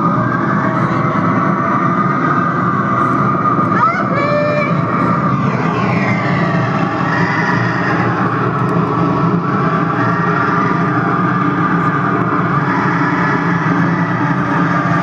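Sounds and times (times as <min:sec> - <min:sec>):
howling wind roar: 0:00.0 - 0:15.0.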